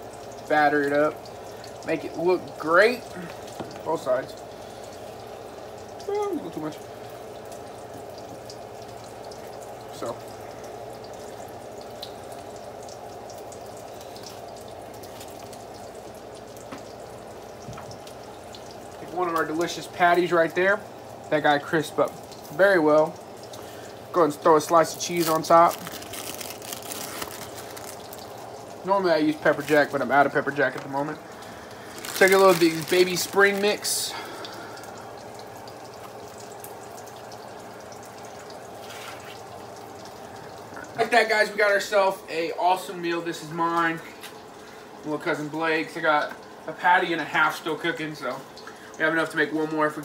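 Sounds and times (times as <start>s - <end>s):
fish patties sizzling in oil: 0.0s - 41.6s.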